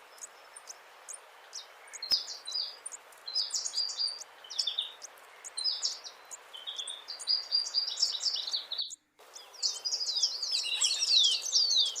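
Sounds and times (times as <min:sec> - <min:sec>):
steady hiss: 0:00.0 - 0:10.5
hummingbird chirping: 0:00.0 - 0:12.0.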